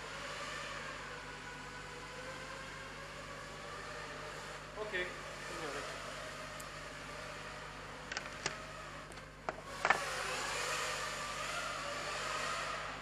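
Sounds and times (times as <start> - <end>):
drone propeller whine echoing: 0.0 - 13.0.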